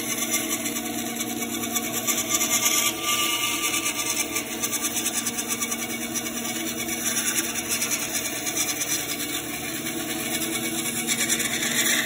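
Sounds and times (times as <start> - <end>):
band saw cutting wood: 0.0 - 12.0
motor hum: 0.0 - 12.0.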